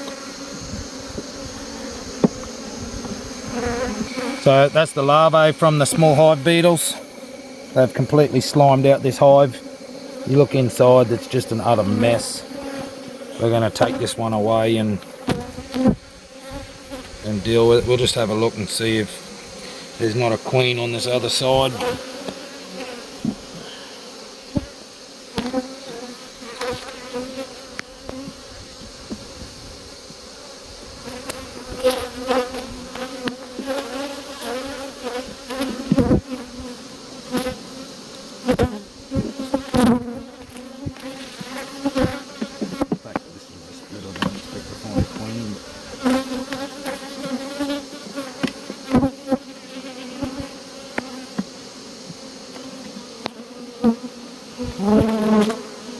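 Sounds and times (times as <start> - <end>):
honeybees buzzing: 0.0 - 55.9.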